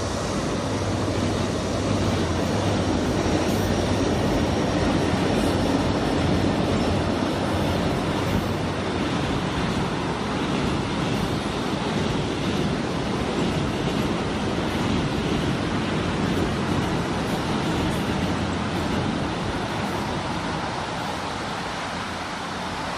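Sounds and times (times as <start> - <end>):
locomotive engine hum: 0.0 - 22.9
train wheels rumbling on rails: 0.0 - 22.9.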